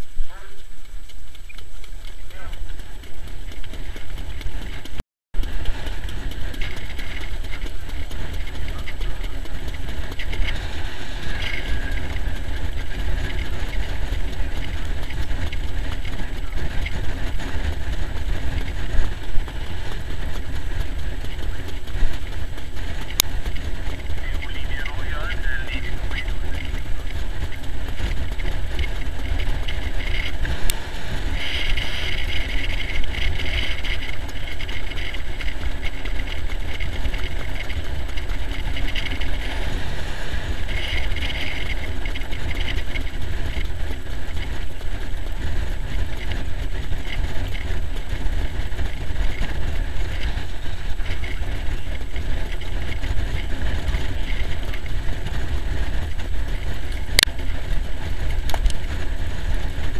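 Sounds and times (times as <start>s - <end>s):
sulky wheels rumbling on dirt track: 0.0s - 59.9s
wind on microphone: 0.0s - 59.9s.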